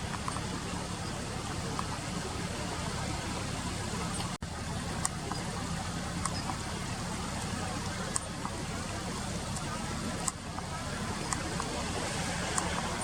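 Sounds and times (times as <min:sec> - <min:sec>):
distant traffic: 0:00.0 - 0:13.0
river water rushing: 0:00.0 - 0:13.0.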